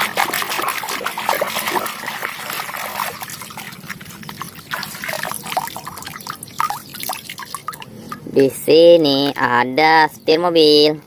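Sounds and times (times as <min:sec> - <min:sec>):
water gurgling: 0:00.0 - 0:09.6
water splashing and trickling: 0:00.0 - 0:10.8.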